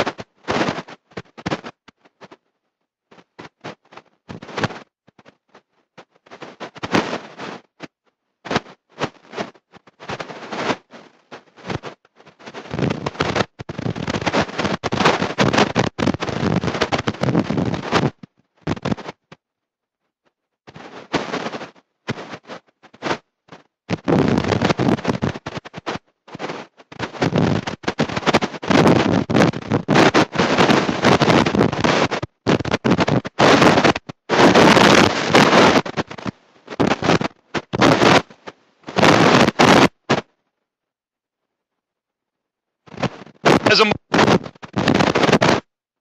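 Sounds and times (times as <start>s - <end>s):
harsh crackling distortion: 0.0s - 2.4s, 3.1s - 19.4s, 20.7s - 40.4s, 42.9s - 45.7s.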